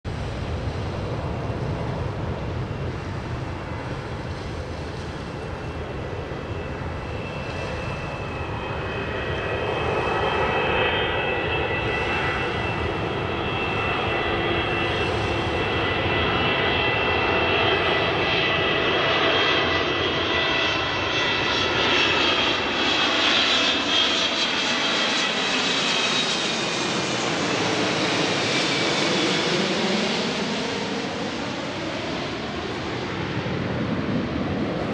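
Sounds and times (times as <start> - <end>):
jet engines rumbling overhead: 0.1 - 34.9.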